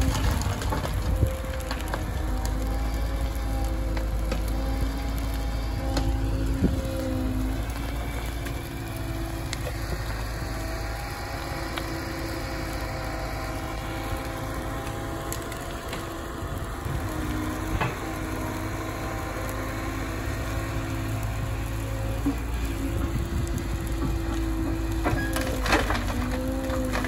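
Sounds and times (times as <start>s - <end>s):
excavator diesel engine running: 0.0s - 27.0s
hydraulic whine: 0.0s - 27.0s.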